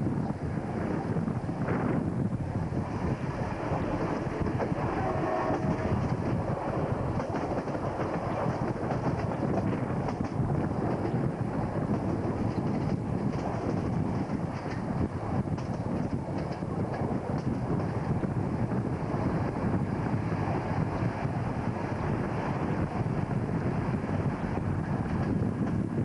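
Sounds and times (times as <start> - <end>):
train engine and wheels rumble: 0.0 - 26.0.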